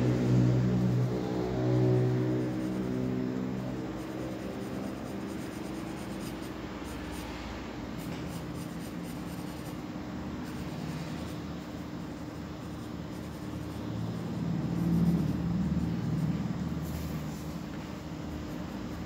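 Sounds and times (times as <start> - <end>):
pencil scratching on paper: 0.0 - 19.0
steady low hum: 0.0 - 19.0.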